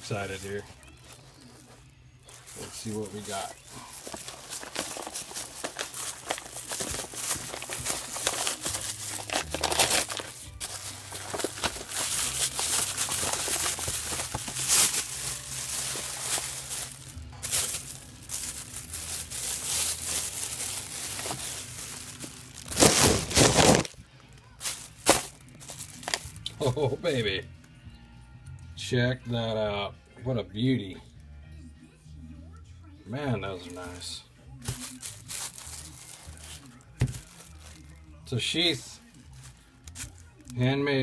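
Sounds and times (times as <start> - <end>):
paper and plastic crinkling: 0.0 - 27.2, 33.6 - 40.7.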